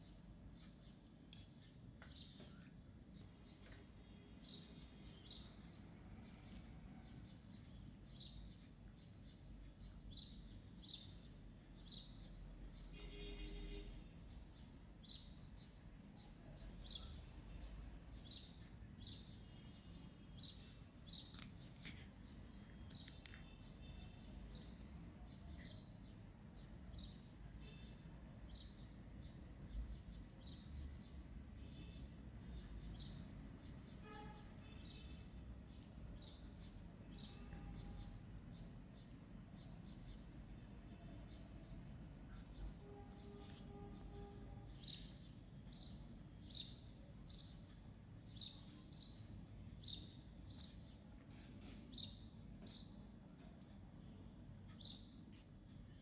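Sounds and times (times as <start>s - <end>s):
faint bird chirping: 0.0s - 56.0s.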